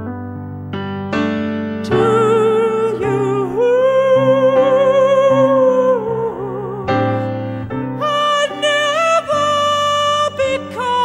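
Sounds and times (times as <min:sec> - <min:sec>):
acoustic piano chords: 0:00.0 - 0:11.0
person singing with vibrato: 0:01.8 - 0:11.0.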